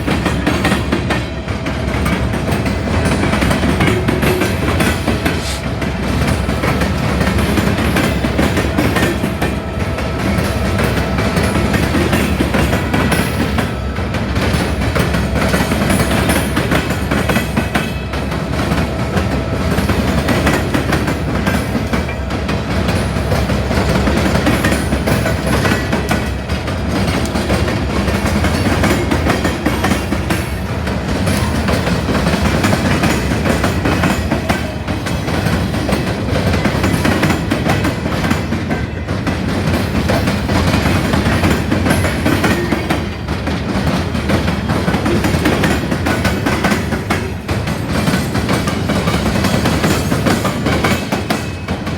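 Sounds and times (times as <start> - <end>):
freight train rumble: 0.0 - 51.9
wheels clicking over rail joints: 0.0 - 51.9.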